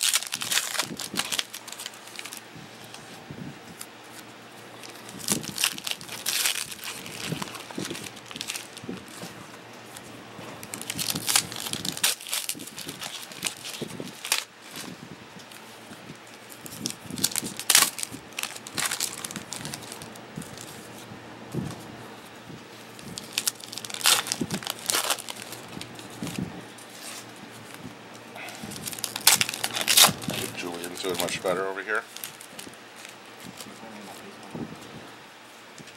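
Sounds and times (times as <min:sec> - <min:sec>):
card pack wrappers crinkling: 0:00.0 - 0:21.0, 0:22.8 - 0:34.5.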